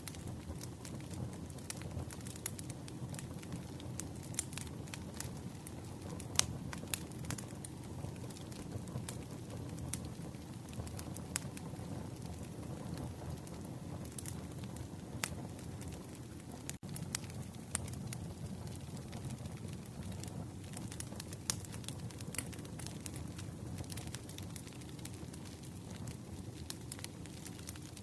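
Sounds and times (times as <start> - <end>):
burning wood crackling and popping: 0.0 - 28.0
rumble of flames: 0.0 - 28.0.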